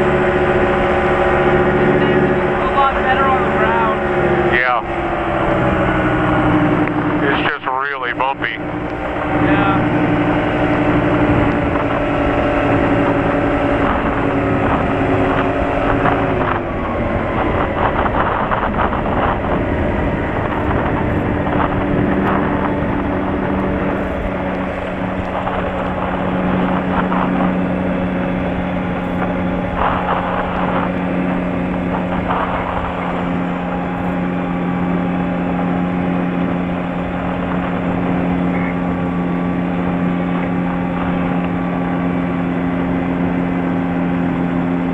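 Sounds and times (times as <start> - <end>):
light airplane engine running: 0.0 - 44.9
wind noise: 0.0 - 44.9.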